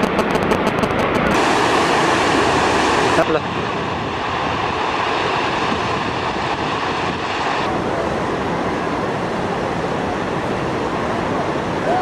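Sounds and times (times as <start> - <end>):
rushing floodwater: 0.0 - 12.0.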